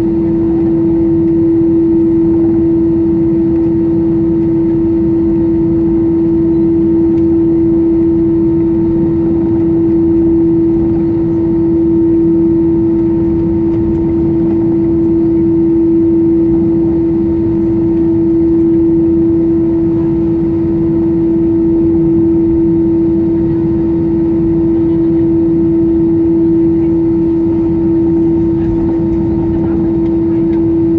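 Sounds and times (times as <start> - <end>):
airplane cabin engine drone: 0.0 - 30.9.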